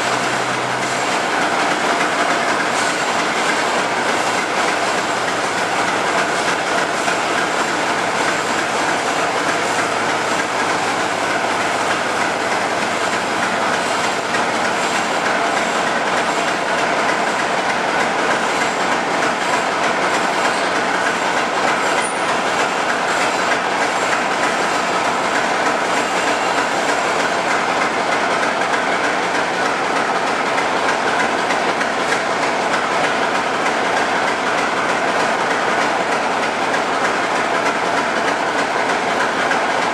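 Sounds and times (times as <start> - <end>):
diesel locomotive running: 0.0 - 39.9.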